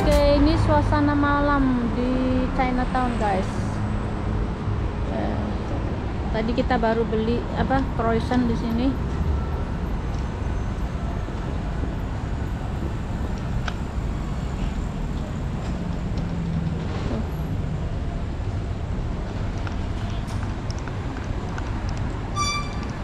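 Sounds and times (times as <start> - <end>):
low rumble of cars: 0.0 - 23.0.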